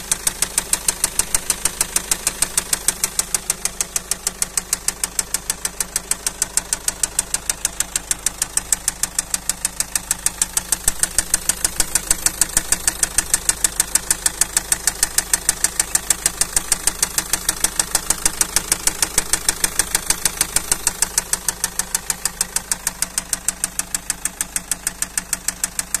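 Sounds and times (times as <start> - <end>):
diesel engine idling with tapping knock: 0.0 - 26.0.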